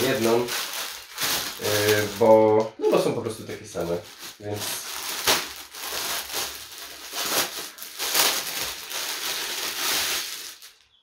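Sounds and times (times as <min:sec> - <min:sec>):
packaging crinkling and rustling: 0:00.0 - 0:02.7, 0:03.8 - 0:11.0.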